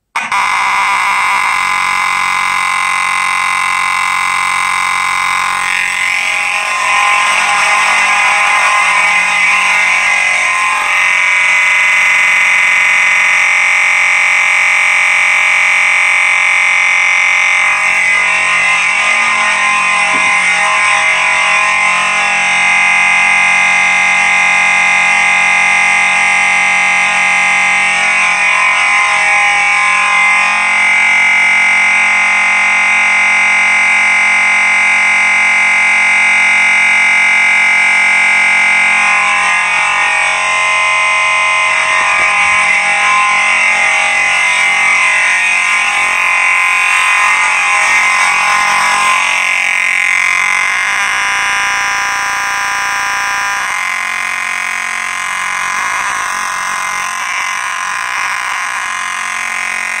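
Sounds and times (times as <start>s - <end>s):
fire alarm horn buzzing: 0.0s - 60.0s.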